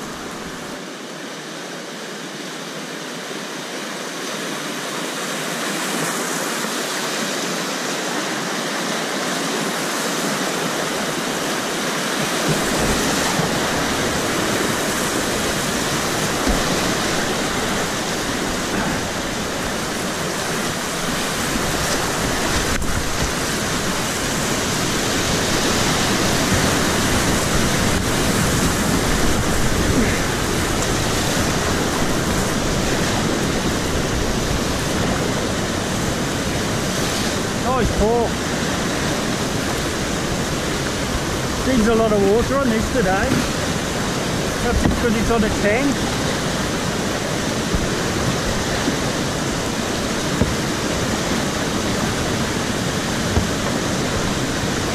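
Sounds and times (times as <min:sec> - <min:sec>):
whitewater rapids rushing: 0:00.0 - 0:54.9.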